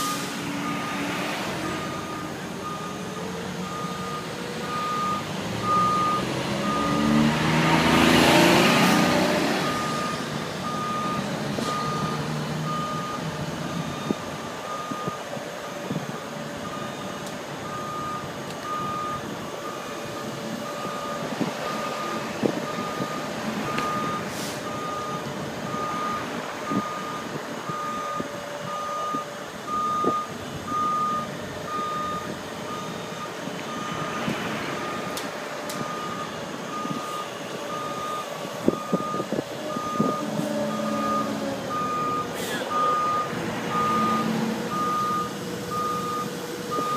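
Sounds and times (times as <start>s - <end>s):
reversing alarm beeping: 0.0s - 7.2s, 9.6s - 16.0s, 16.6s - 34.2s, 34.8s - 35.2s, 35.8s - 46.9s
forklift engine running: 0.0s - 46.9s.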